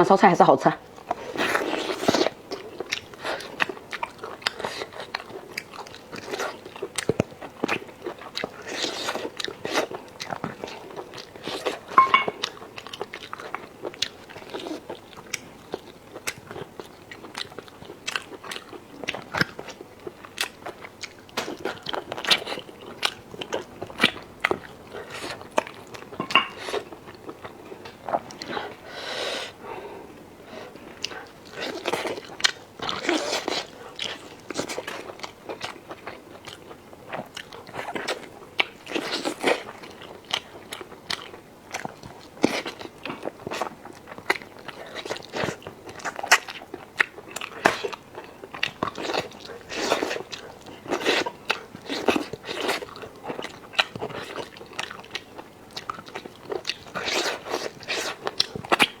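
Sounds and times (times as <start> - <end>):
person chewing food: 1.0 - 29.9, 30.5 - 59.0.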